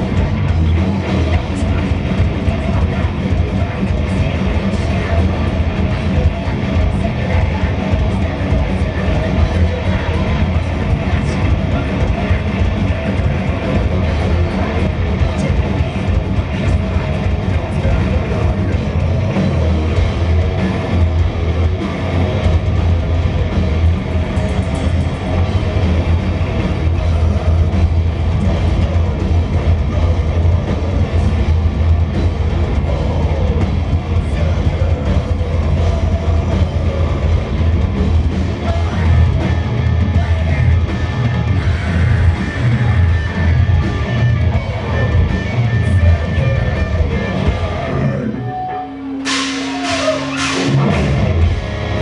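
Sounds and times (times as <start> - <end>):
drum kit: 0.0 - 48.3, 49.2 - 52.0
distorted electric guitars and bass: 0.0 - 52.0.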